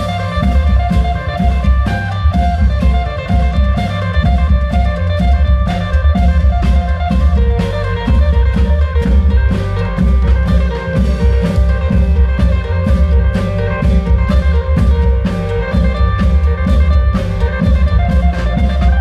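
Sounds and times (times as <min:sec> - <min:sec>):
deep drum beats: 0:00.0 - 0:19.0
drum band over loudspeakers: 0:00.0 - 0:19.0
pitched melody line: 0:00.0 - 0:19.0.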